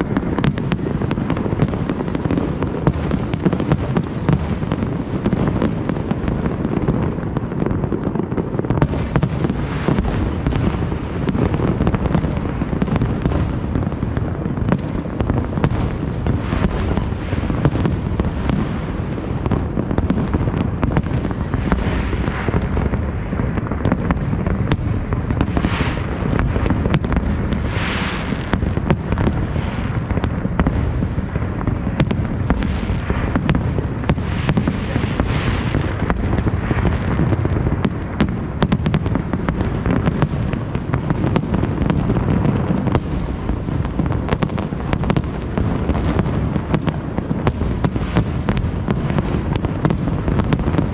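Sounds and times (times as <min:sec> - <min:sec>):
rumble of firework bursts: 0:00.0 - 0:50.9
sharp firework cracks: 0:00.0 - 0:50.9.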